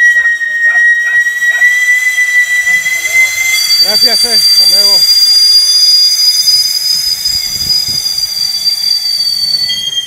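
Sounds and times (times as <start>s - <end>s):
shrill steam whistle: 0.0s - 10.0s.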